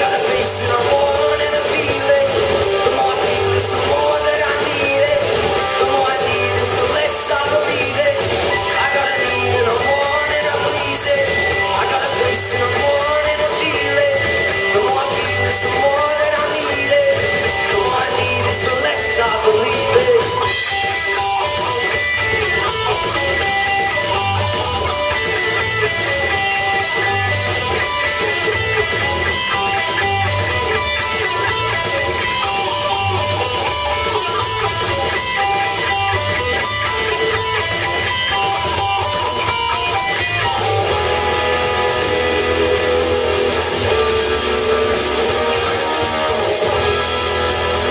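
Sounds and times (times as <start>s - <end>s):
electric guitars: 0.0s - 47.9s
live rock band playing: 0.0s - 47.9s.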